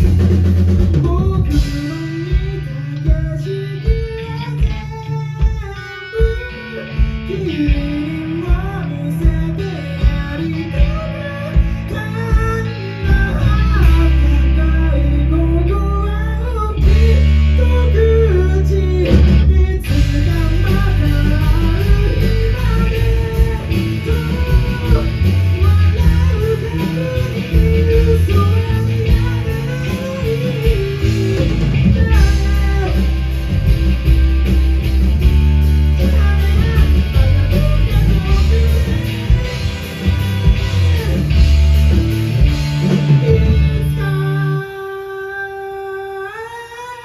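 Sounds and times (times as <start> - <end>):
bass guitar: 0.0 - 47.0
drums: 0.0 - 47.0
electric guitar: 0.0 - 47.0
man singing lead vocal: 0.0 - 47.0.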